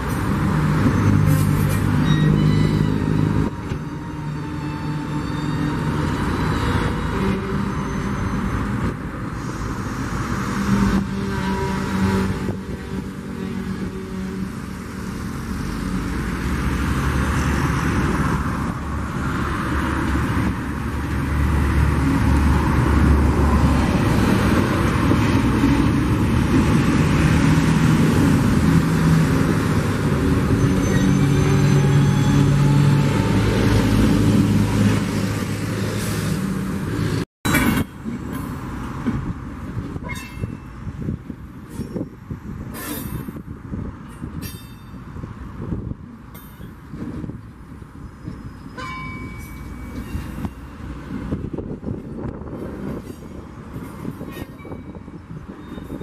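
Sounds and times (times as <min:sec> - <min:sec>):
train wagons rumbling on track: 0:00.0 - 0:56.0.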